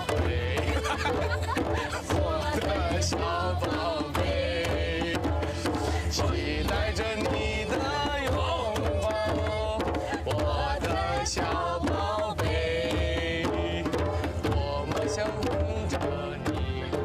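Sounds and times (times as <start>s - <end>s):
person singing cheerful song: 0.0s - 13.8s
hand drums beat: 0.0s - 17.0s.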